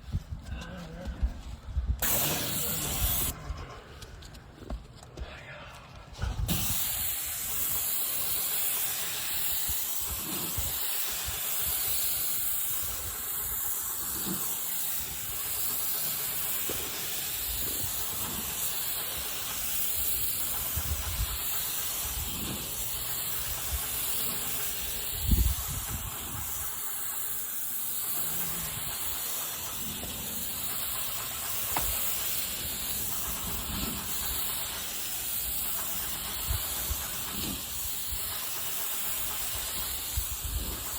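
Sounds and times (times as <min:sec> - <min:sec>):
paint sprayer hissing: 0:01.9 - 0:03.4, 0:06.4 - 0:40.9.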